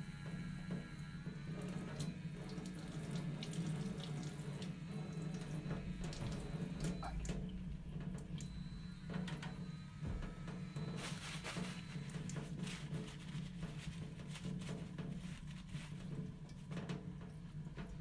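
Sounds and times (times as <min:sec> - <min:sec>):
tap water running into sink: 0:01.5 - 0:08.5, 0:10.5 - 0:18.0.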